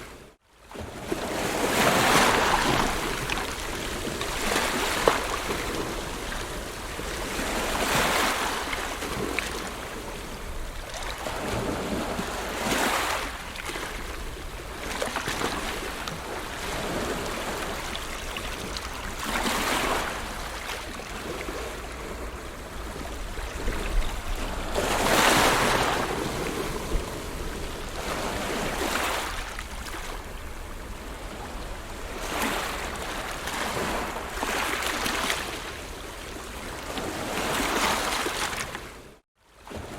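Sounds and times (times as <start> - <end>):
wind rumble on microphone: 0.0 - 34.4
ocean waves breaking: 0.0 - 39.9.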